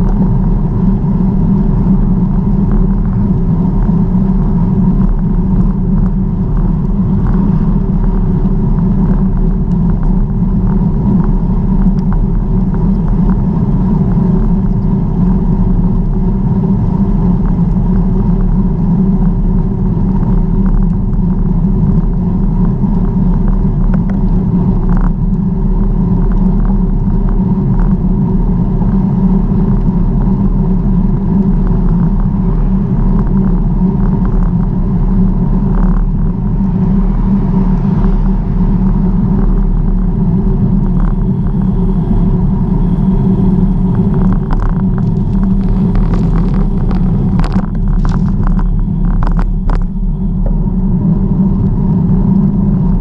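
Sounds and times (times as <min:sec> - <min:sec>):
bicycle tyre noise: 0:00.0 - 0:53.0
wind buffeting: 0:00.0 - 0:53.0.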